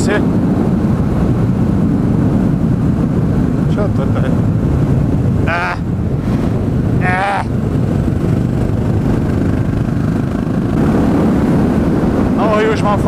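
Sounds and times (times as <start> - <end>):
air rushing past: 0.2 - 12.4
motorcycle engine running: 0.3 - 13.0.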